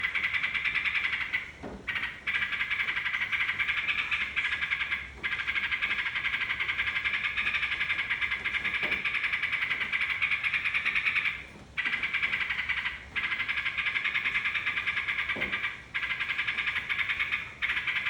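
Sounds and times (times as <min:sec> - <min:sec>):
bird chattering trill: 0:00.0 - 0:18.0.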